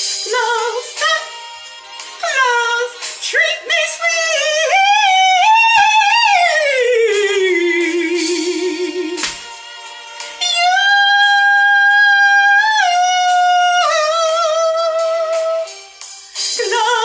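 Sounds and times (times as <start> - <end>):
song with long held high note: 0.0 - 17.0.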